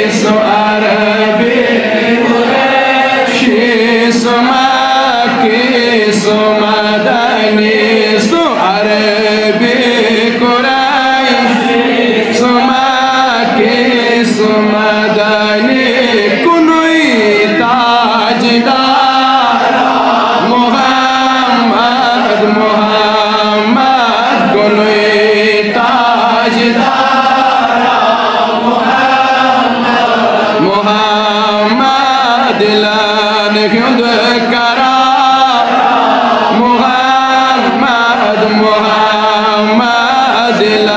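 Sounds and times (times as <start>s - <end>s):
man chanting devotional song: 0.0s - 27.8s, 28.6s - 40.9s.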